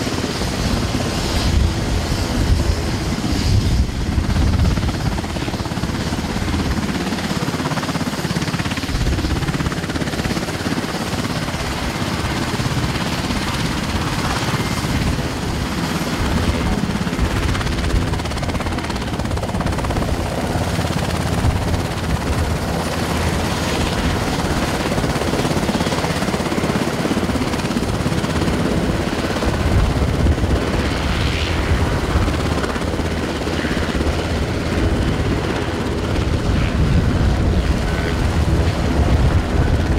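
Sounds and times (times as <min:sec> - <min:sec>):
helicopter engines whining: 0:00.0 - 0:39.9
helicopter rotor throbbing: 0:00.0 - 0:39.9.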